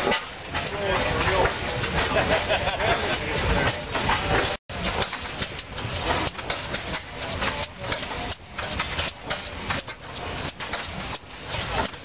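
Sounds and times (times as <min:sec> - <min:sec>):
flywheel gas engines running: 0:00.0 - 0:12.0.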